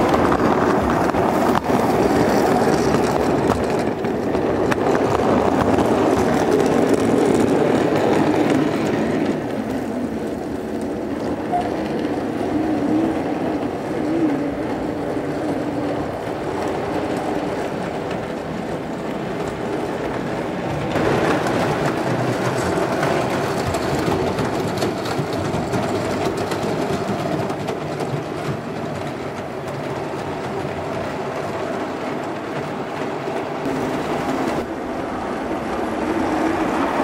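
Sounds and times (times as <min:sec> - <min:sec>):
model train running on track: 0:00.0 - 0:37.0
wheels clicking on rail: 0:00.0 - 0:37.0.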